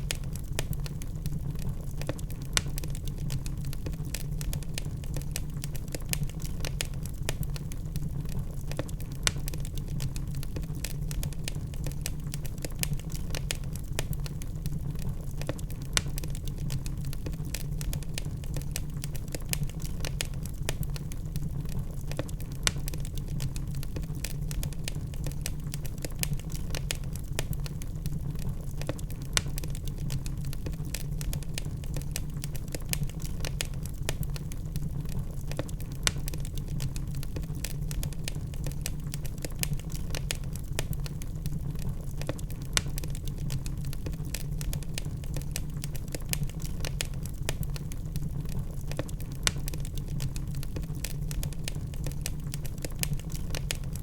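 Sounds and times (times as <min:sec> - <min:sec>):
fire low rumble: 0:00.0 - 0:54.0
log fire crackling: 0:00.0 - 0:54.0.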